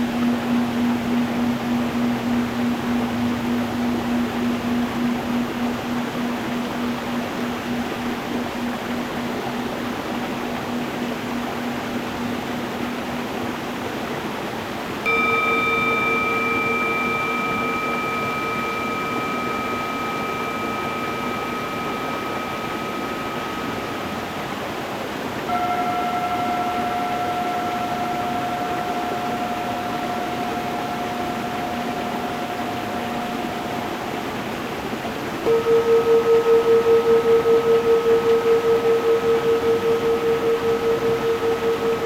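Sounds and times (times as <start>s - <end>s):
singing bowls ringing: 0.0s - 14.4s, 15.0s - 42.0s.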